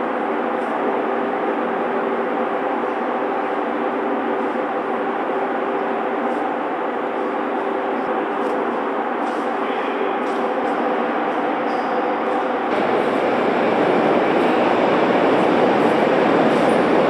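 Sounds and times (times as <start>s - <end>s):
metro station mechanical hum: 0.0s - 17.0s.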